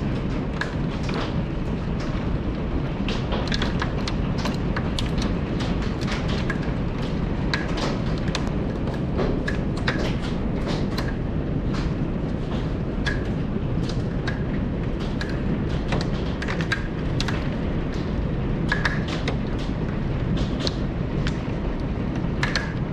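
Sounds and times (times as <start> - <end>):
hailstones clicking on hard surfaces: 0.0 - 22.9.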